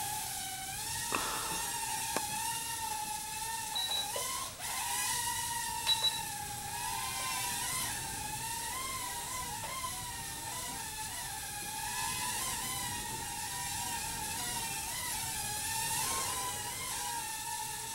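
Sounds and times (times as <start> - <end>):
small drone motors whining: 0.0 - 17.9.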